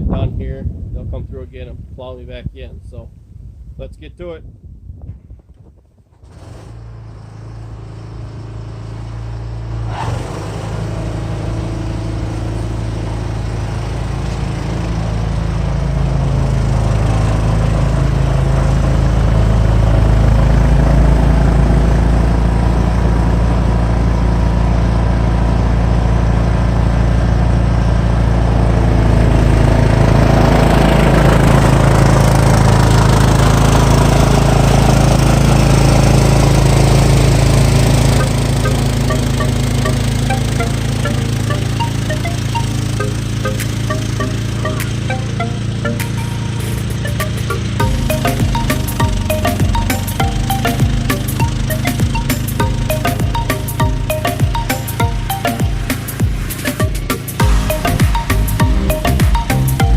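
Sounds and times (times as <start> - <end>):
lawn tractor engine hum: 6.1 - 59.9.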